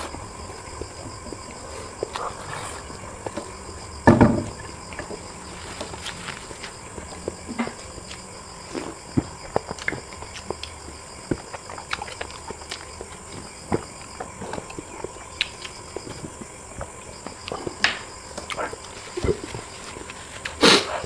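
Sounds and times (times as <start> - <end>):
chewing and lip-smacking: 0.0 - 3.9, 4.6 - 21.0.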